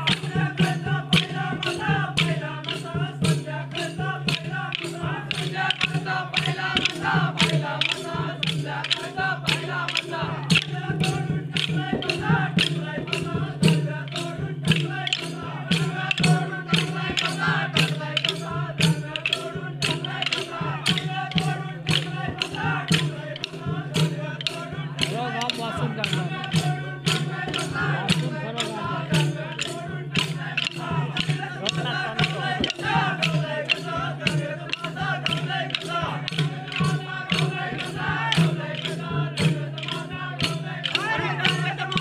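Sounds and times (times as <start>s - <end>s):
drums and jingling percussion: 0.0s - 42.0s
group folk singing: 0.0s - 42.0s.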